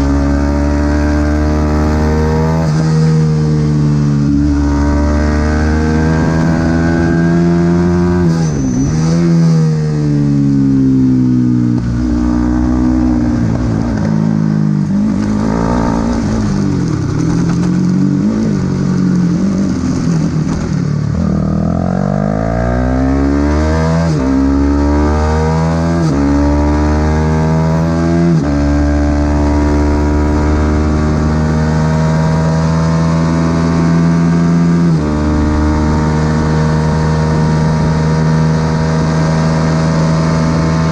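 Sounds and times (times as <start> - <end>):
race motorcycle engine revving: 0.0 - 40.9.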